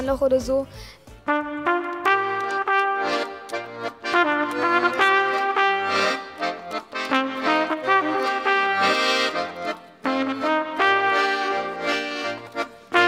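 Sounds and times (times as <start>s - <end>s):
accordion accompaniment: 0.7s - 13.0s
trumpet playing jazz melody: 1.2s - 13.0s.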